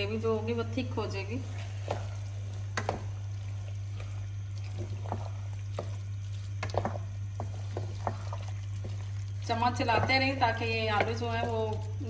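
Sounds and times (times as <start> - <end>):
steady low hum: 0.0 - 12.0
spatula stirring thick food: 1.1 - 12.0.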